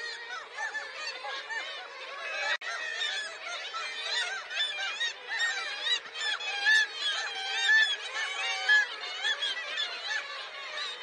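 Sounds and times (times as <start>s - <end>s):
gull colony calling: 0.0s - 11.0s.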